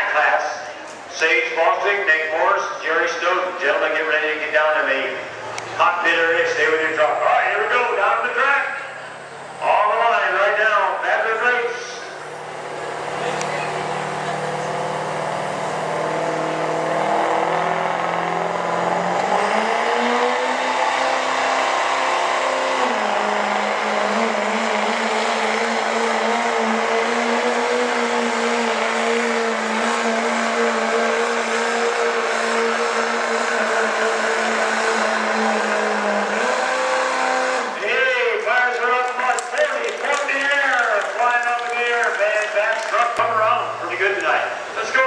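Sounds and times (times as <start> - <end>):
diesel pickup engine at full throttle: 0.0 - 45.0.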